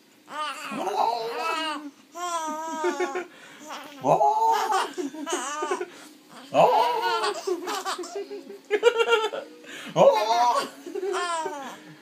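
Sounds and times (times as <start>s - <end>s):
baby laughing: 0.3s - 9.4s, 10.0s - 11.8s.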